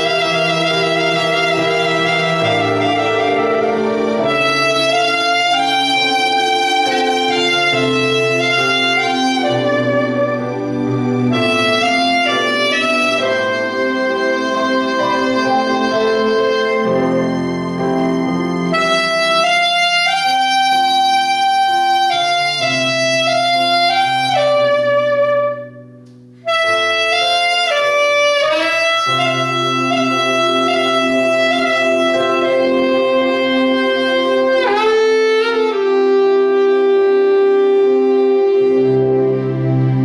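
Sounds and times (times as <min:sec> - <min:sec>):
backing track music: 0:00.0 - 0:40.0
saxophone melody: 0:00.0 - 0:40.0.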